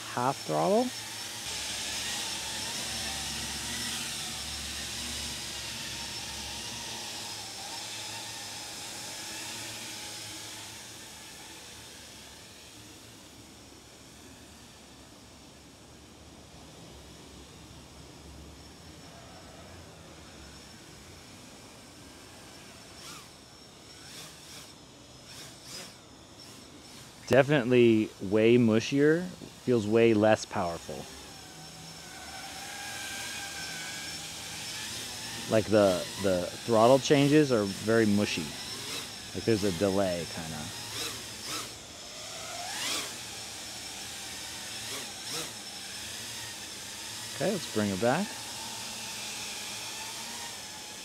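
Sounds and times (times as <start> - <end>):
quadcopter hovering whir: 0.0 - 51.0.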